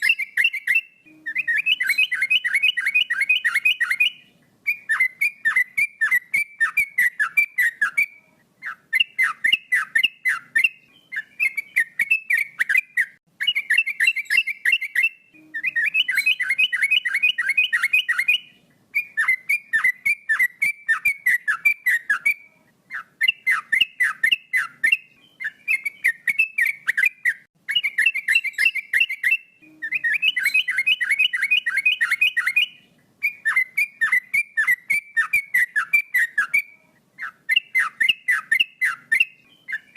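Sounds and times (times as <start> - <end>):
bird singing fluty notes: 0.0 - 39.9.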